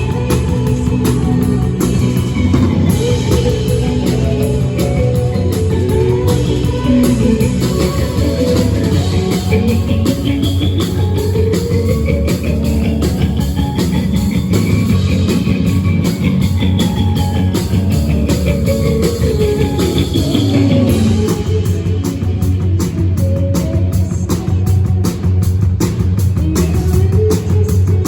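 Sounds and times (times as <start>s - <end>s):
drum kit beat: 0.0s - 28.0s
guitar: 0.0s - 28.0s.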